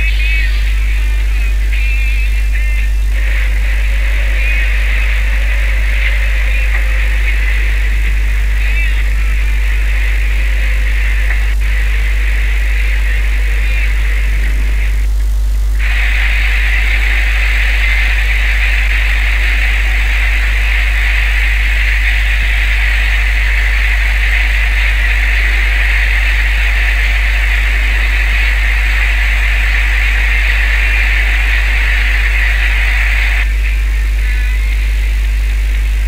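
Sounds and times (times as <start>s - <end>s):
boat engine drone: 0.0s - 36.0s
hissing rush: 3.1s - 14.9s, 15.8s - 33.4s.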